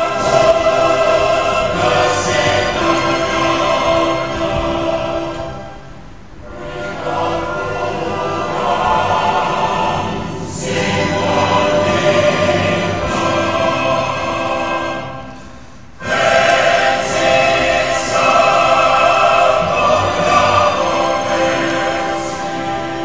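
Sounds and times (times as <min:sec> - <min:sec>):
choir singing slow piece: 0:00.0 - 0:23.0.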